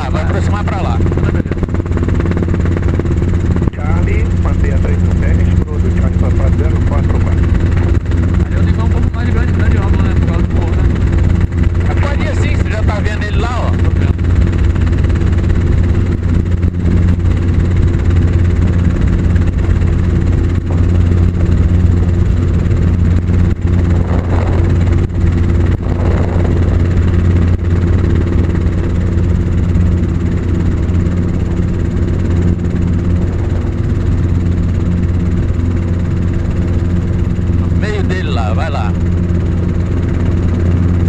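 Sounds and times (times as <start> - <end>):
helicopter rotor and engine drone: 0.0 - 41.0.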